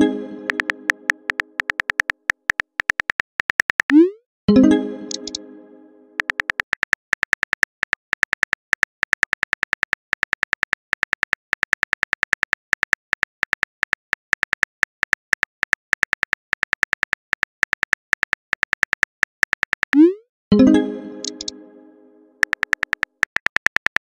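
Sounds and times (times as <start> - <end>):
phone keyboard clicks: 0.5 - 4.0, 5.1 - 5.4, 6.2 - 20.0, 21.2 - 21.5, 22.4 - 24.0.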